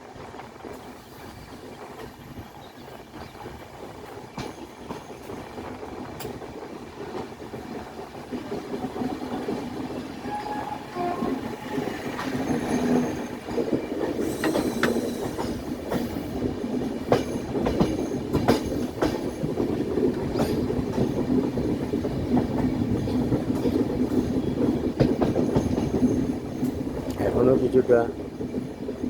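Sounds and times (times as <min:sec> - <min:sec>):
train coaches rumbling: 0:00.0 - 0:29.0
wheels clicking over rail joints: 0:00.4 - 0:29.0.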